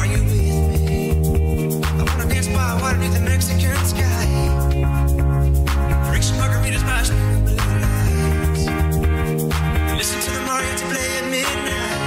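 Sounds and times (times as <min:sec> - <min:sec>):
music with heavy bass and beat: 0:00.0 - 0:12.0.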